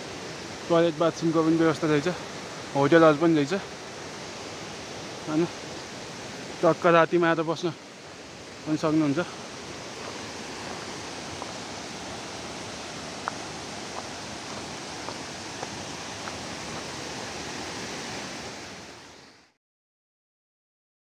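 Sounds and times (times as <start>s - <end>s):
waterfall rushing: 0.0s - 19.5s.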